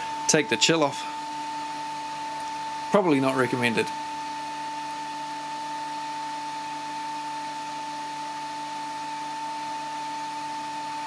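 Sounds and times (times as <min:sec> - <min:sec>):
heat gun blowing air and whining: 0:00.0 - 0:11.0.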